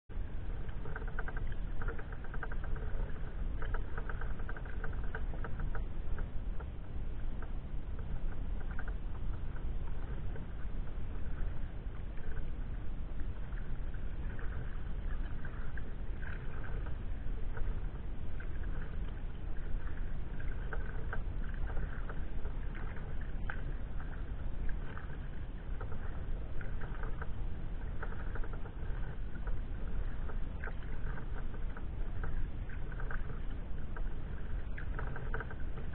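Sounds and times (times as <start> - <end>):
steady low rumble: 0.1 - 35.9
paddle splashing water: 0.2 - 35.9.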